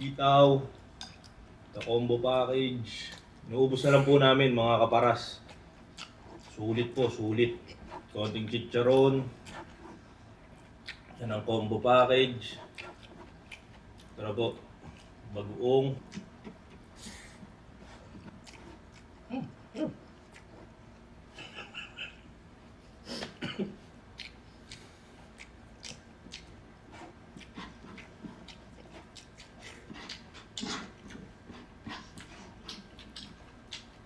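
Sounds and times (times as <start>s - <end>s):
chewing: 0.7s - 2.3s, 2.9s - 4.1s, 5.1s - 21.5s, 23.2s - 34.0s.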